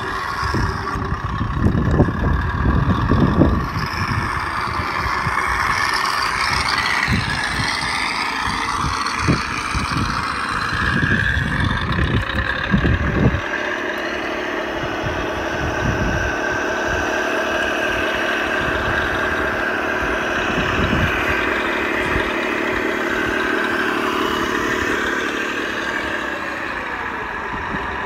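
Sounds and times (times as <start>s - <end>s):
low thumps and rumbling: 0.0s - 28.0s
toy truck motor running: 0.0s - 28.0s.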